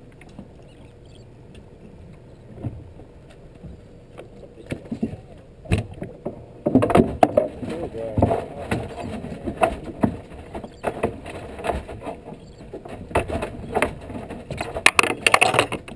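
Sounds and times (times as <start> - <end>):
knocks and thumps on boat: 2.5 - 15.9.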